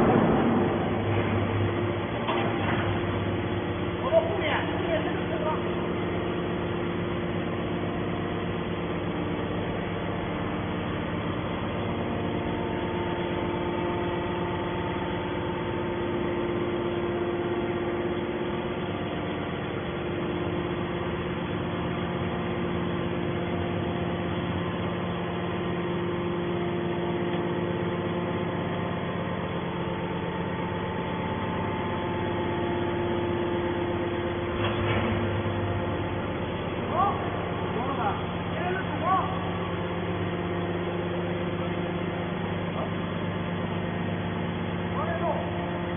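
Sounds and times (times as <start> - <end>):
scrap metal baler humming: 0.0 - 45.9.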